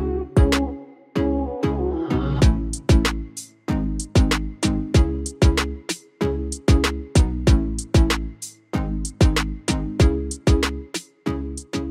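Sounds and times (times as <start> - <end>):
music with drums and bass: 0.4 - 0.7, 2.4 - 11.9.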